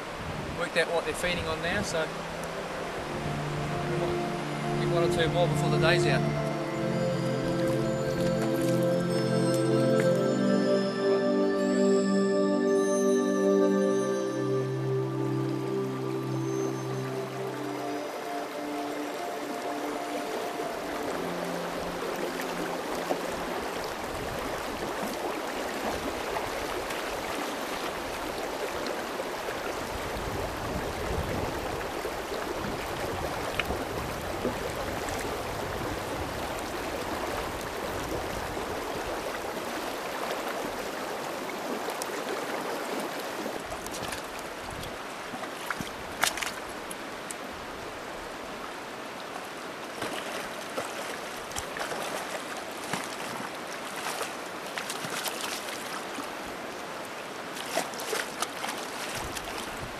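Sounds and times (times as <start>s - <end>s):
river running over stones: 0.0s - 59.9s.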